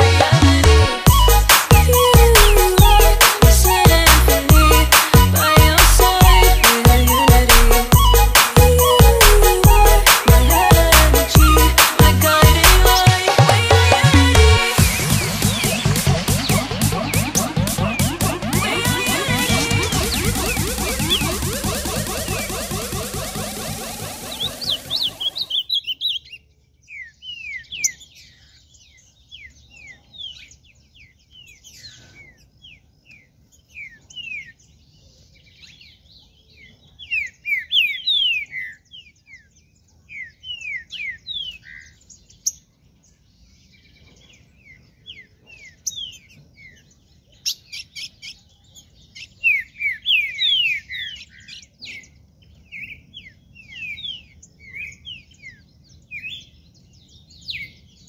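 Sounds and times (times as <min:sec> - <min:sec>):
birds whistling song: 0:01.0 - 0:13.2, 0:14.7 - 0:58.0.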